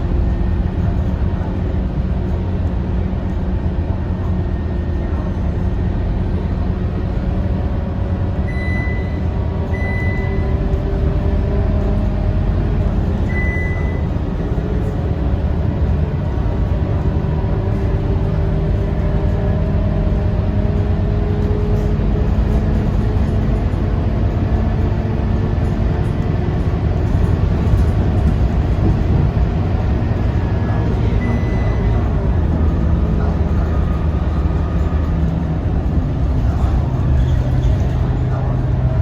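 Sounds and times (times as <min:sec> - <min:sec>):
bus diesel engine running: 0:00.0 - 0:39.0
road noise: 0:00.0 - 0:39.0.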